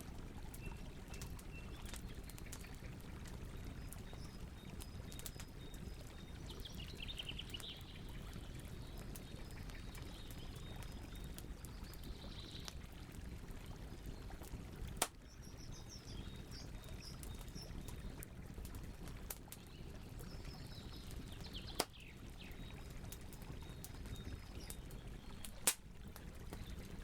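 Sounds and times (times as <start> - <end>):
campfire crackles and pops: 0.0 - 27.0.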